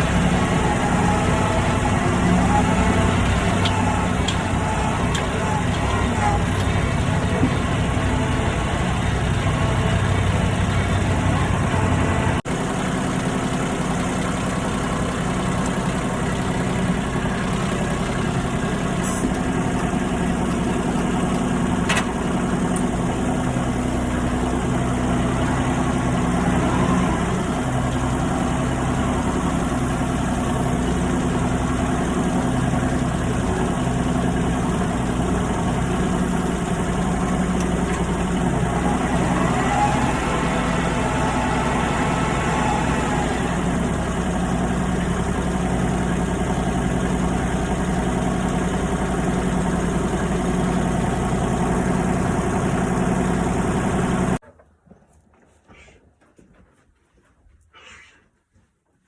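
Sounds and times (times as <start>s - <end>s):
tractor engine idling: 0.0s - 54.4s.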